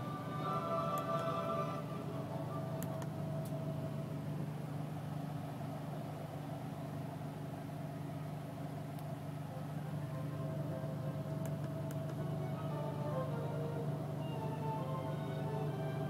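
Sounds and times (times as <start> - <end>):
car engine low hum: 0.0 - 16.0.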